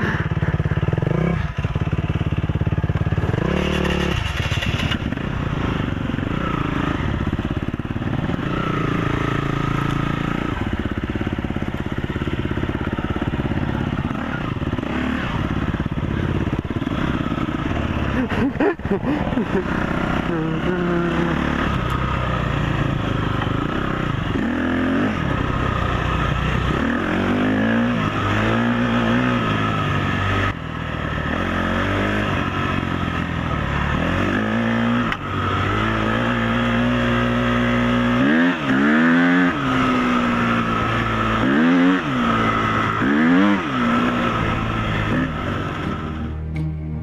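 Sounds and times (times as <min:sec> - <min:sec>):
dirt bike engine revving: 0:00.0 - 0:46.6.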